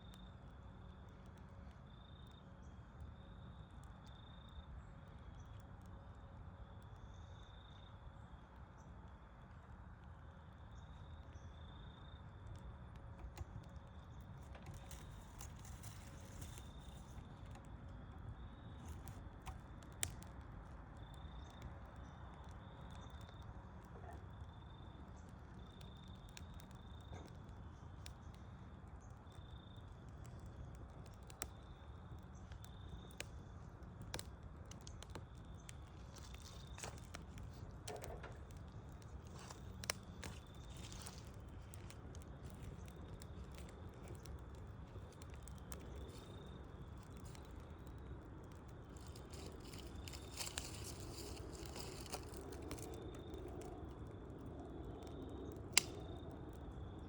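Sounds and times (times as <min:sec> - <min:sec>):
fire low rumble: 0:00.0 - 0:57.0
fire popping and crackling: 0:00.0 - 0:57.0.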